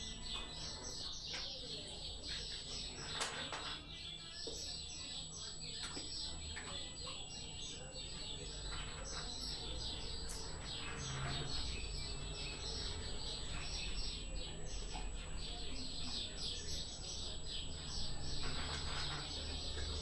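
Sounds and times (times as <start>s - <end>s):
small birds chattering: 0.0s - 20.0s.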